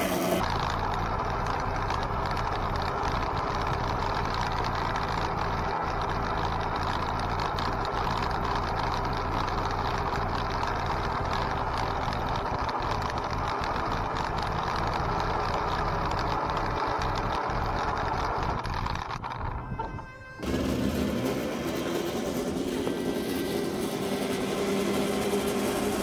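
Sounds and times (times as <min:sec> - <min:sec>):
wind and tyres rushing: 0:00.0 - 0:26.0.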